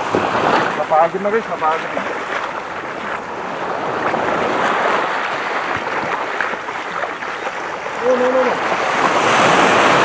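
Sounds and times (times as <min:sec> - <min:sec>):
small waves washing up beach: 0:00.0 - 0:10.0.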